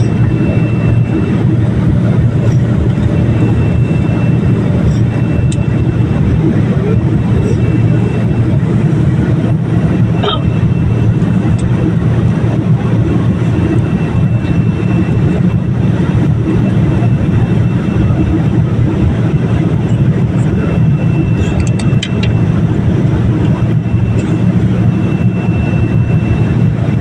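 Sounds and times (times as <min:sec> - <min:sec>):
airplane cabin engine roar: 0:00.0 - 0:27.0.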